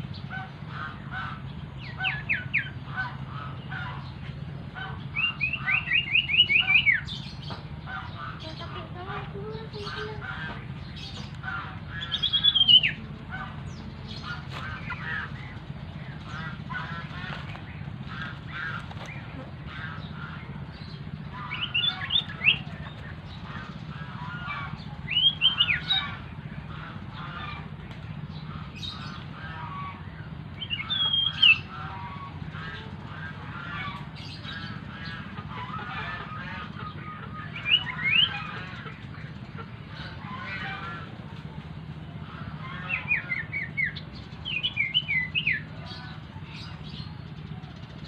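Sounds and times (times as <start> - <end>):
birds chirping: 0.0 - 48.0
low hum: 0.0 - 48.0.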